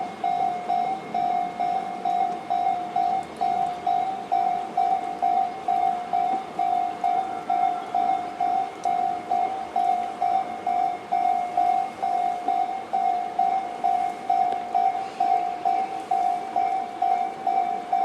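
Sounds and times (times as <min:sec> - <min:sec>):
level-crossing alarm ding: 0:00.0 - 0:18.0.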